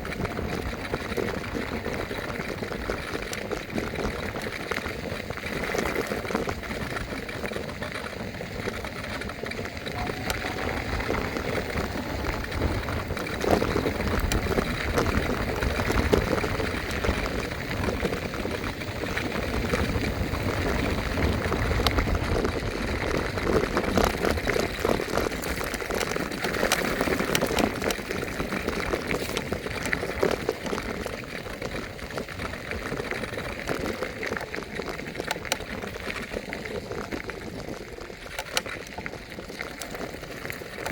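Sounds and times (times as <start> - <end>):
scooter wheels rattling: 0.0 - 40.9
wind rumbling on microphone: 0.0 - 40.9.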